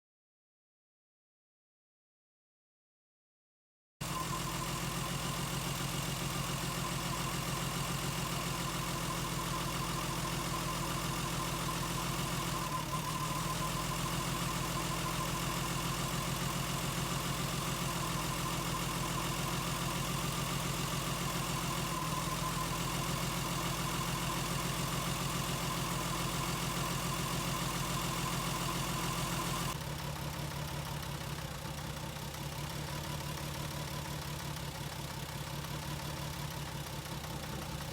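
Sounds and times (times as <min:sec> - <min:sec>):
car engine idling with misfire: 0:04.0 - 0:37.9.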